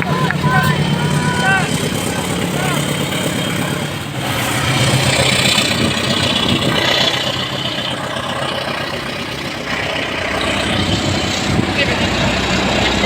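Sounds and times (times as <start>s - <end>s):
diesel locomotive engine drone: 0.0s - 13.0s
moving train rumble: 0.0s - 13.0s.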